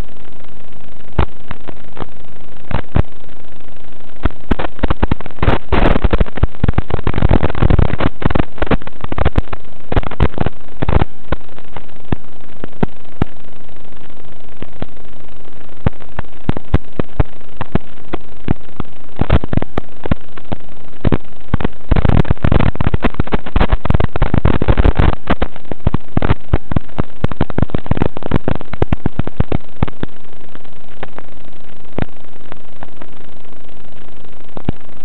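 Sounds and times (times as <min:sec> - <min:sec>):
crackling clicks: 0:00.0 - 0:35.0
static hiss: 0:00.0 - 0:35.0.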